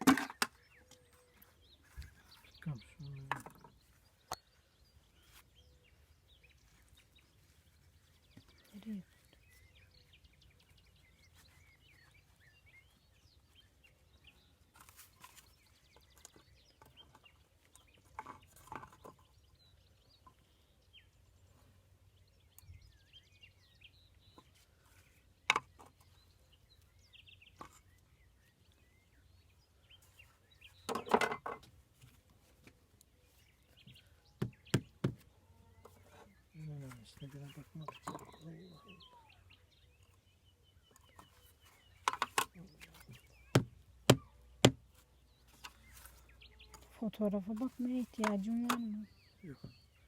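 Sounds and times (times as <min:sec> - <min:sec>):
faint birds chirping: 0:00.0 - 0:50.0.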